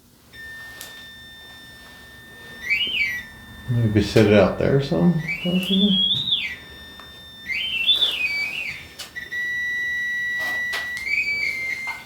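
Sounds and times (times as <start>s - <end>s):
wavering electronic alert tone: 0.4s - 10.7s.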